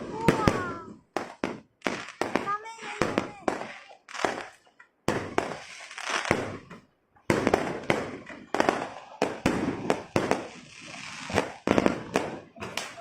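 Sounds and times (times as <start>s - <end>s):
fireworks bangs with crackle: 0.0s - 13.0s.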